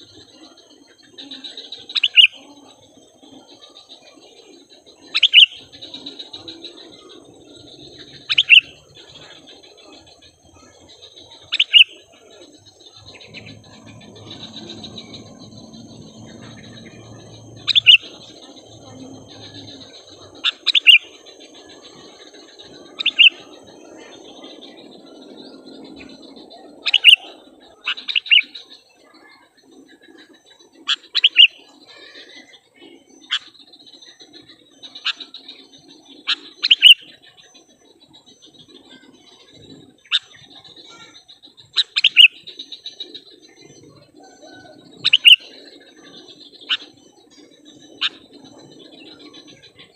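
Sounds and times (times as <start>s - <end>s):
bulbuls chirping: 0.0s - 49.9s
faint chirping of birds: 0.0s - 49.9s.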